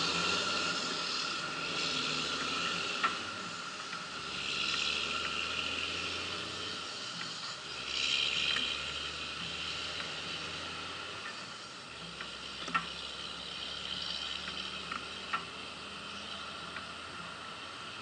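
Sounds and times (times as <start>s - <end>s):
faint low engine hum: 0.0s - 18.0s
wind and road noise: 0.0s - 18.0s.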